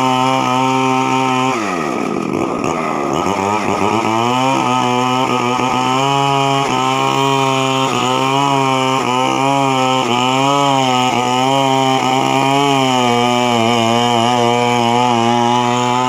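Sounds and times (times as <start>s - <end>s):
chainsaw running at high revs: 0.0s - 16.0s.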